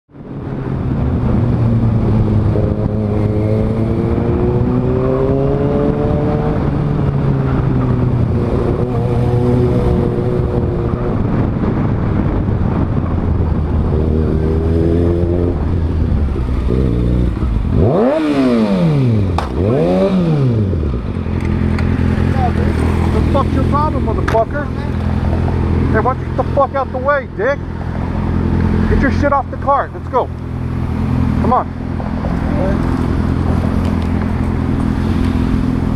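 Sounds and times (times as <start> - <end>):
motorcycle engine revving: 0.4 - 35.9.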